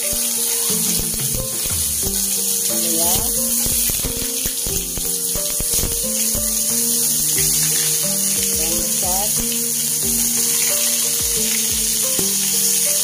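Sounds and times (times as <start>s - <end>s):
background music of held notes: 0.0s - 13.0s
shallots and garlic frying in oil: 0.0s - 13.0s.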